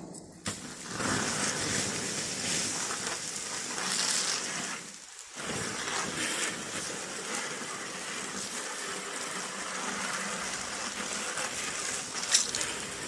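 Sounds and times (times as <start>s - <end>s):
water hissing on embers: 0.4s - 13.0s.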